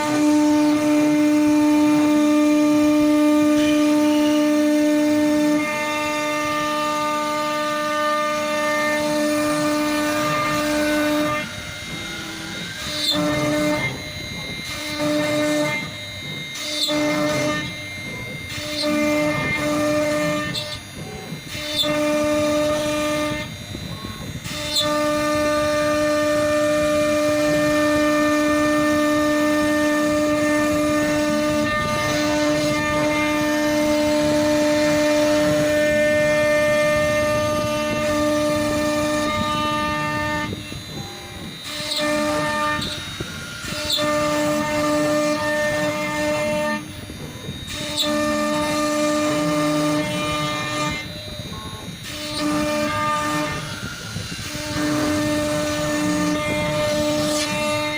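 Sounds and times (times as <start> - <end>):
router spindle whine: 0.0 - 57.9
rough wood cutting noise: 5.2 - 27.0, 30.1 - 57.9.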